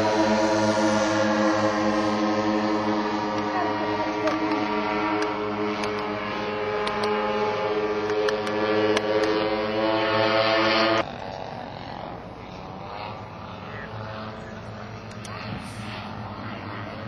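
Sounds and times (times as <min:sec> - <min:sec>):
distant engine drone: 0:00.0 - 0:17.0
model aircraft engines droning: 0:00.0 - 0:17.0.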